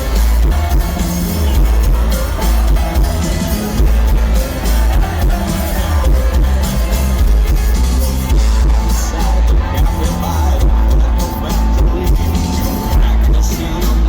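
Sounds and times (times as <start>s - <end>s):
live rock band: 0.0s - 14.0s.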